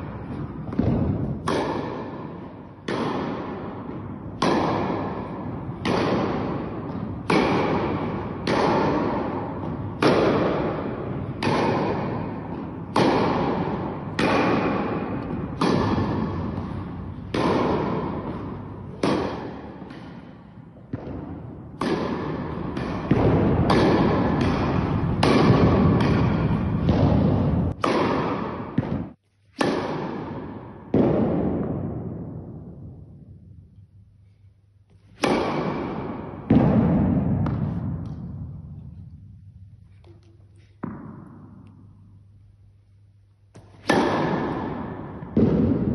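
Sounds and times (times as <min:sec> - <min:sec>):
tennis ball hit by rackets: 0:00.0 - 0:33.4, 0:34.9 - 0:42.2, 0:43.5 - 0:45.9.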